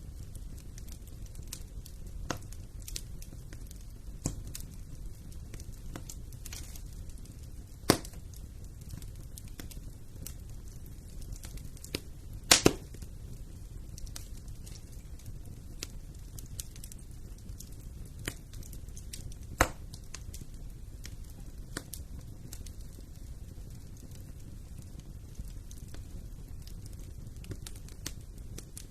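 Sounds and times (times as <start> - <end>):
sharp pops of fire: 0.0 - 28.9
wood fire crackling: 0.0 - 28.9.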